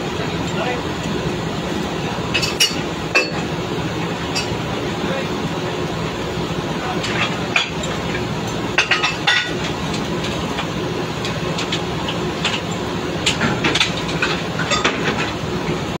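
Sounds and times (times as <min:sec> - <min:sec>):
steel pipes clanking: 0:00.0 - 0:05.4, 0:06.8 - 0:15.5
drilling rig machinery hum: 0:00.0 - 0:16.0.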